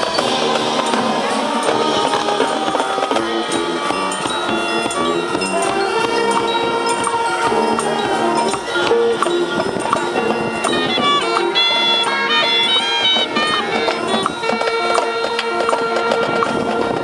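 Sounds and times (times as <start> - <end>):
percussion strikes: 0.0 - 17.0
wind section chords: 0.0 - 17.0.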